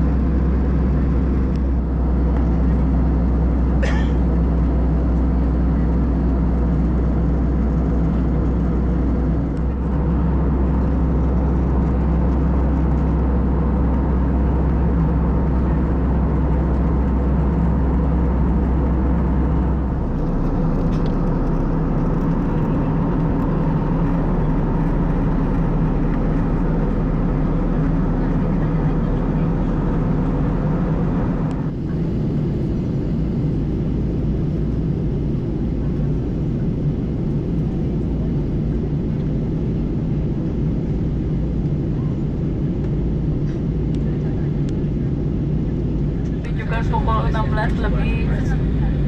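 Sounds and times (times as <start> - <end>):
airliner cabin engine roar: 0.0 - 49.0.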